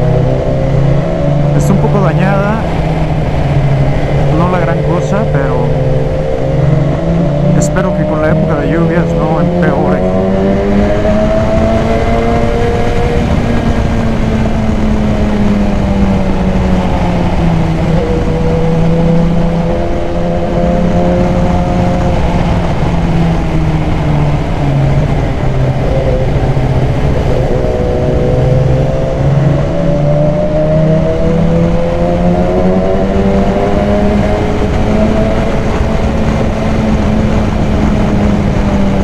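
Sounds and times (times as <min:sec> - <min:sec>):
motorcycle engine revving: 0:00.0 - 0:39.0
wind rush: 0:00.0 - 0:39.0.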